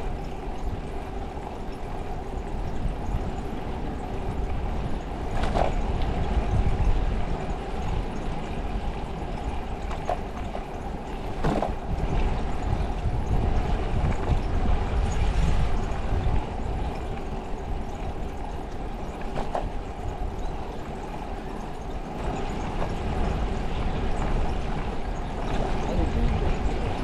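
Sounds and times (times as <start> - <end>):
bicycle road noise: 0.0 - 27.0
wind rumbling on microphone: 0.0 - 27.0.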